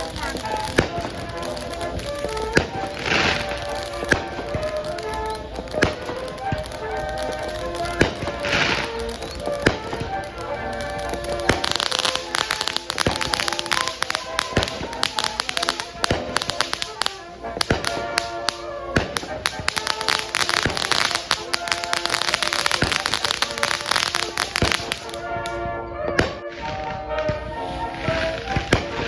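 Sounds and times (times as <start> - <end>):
fireworks bangs and crackling: 0.0 - 29.0
music playing: 0.0 - 29.0.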